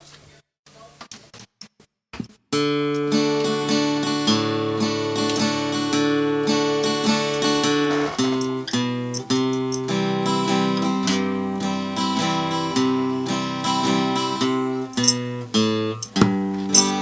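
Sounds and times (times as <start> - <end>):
acoustic guitar strumming chords: 2.6 - 17.0.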